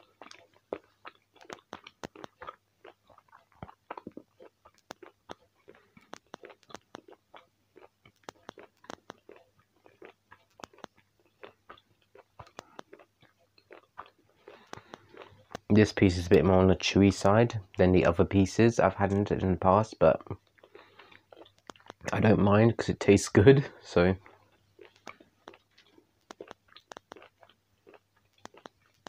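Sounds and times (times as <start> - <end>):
person chewing wetly: 0.0 - 16.4, 20.0 - 22.3, 24.2 - 29.0.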